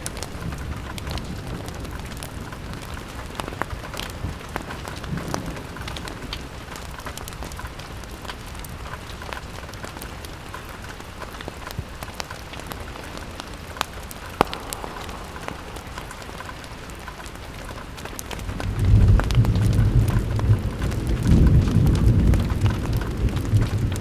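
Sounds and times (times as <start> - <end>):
rain on window glass: 0.0 - 24.0.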